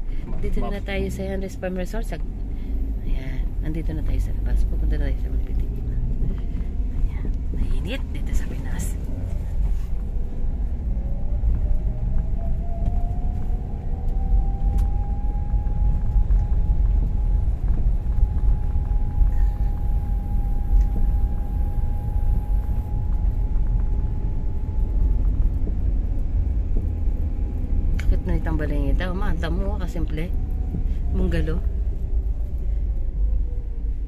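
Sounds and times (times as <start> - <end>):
car engine and tyres rumbling: 0.0 - 34.0
faint whine: 0.0 - 34.0.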